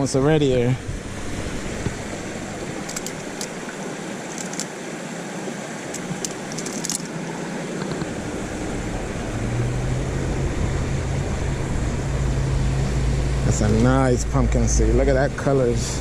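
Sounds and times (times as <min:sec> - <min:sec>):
vehicle engine hum: 0:00.0 - 0:16.0
water rushing over spillway: 0:00.0 - 0:16.0.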